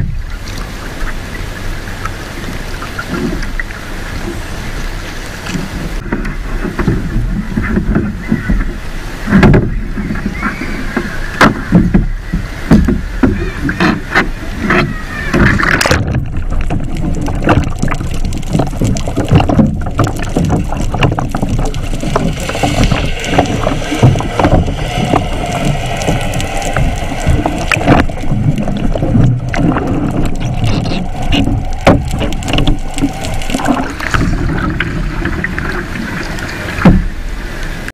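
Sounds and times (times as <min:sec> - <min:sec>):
water splashing around kayak: 0:00.0 - 0:37.9.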